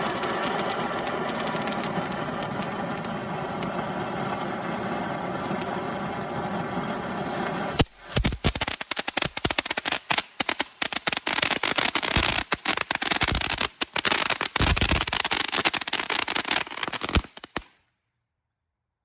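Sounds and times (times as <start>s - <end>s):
firework fountain hissing and crackling: 0.0s - 17.8s.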